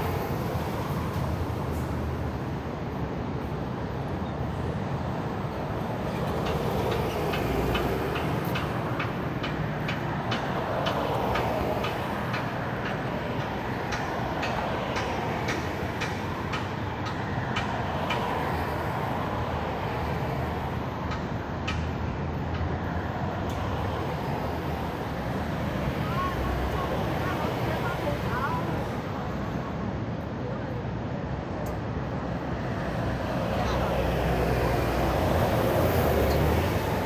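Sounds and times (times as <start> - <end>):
rumble of passing vehicles: 0.0 - 37.0.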